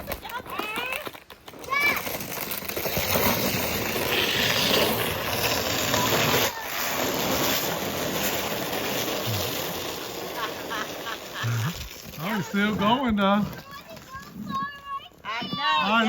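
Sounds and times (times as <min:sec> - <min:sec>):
sled sliding over crusty snow: 0:00.0 - 0:16.0.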